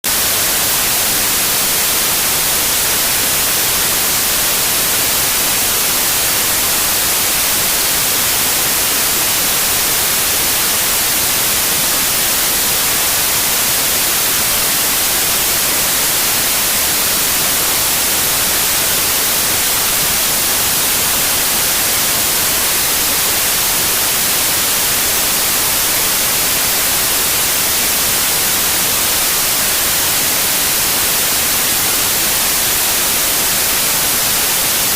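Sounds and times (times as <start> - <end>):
white noise hiss: 0.1 - 34.9.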